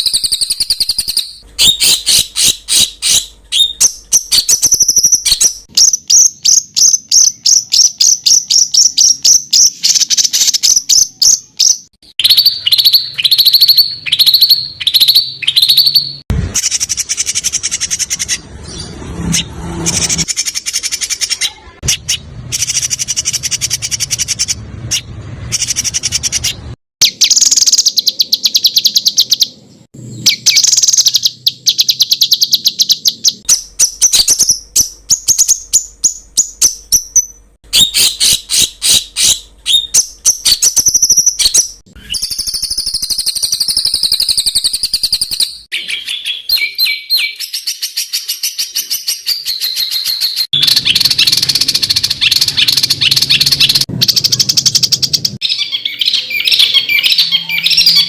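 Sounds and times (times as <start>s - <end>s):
songbird song with sharp trills: 0.0s - 58.0s.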